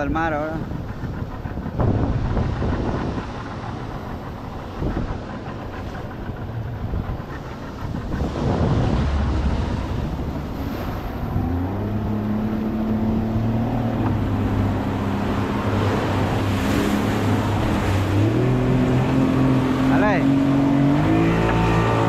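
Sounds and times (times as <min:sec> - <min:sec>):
outboard motor humming: 0:00.0 - 0:22.0
waves breaking: 0:00.0 - 0:22.0
wind on microphone: 0:00.0 - 0:22.0.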